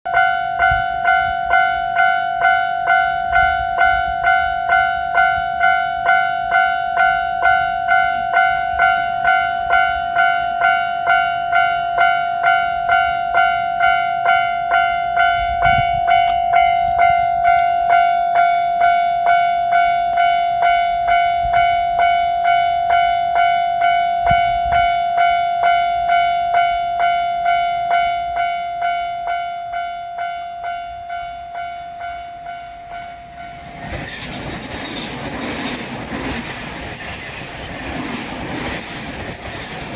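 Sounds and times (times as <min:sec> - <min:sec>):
level crossing warning bell: 0:00.1 - 0:39.9
rushing noise of approaching train: 0:00.1 - 0:39.9.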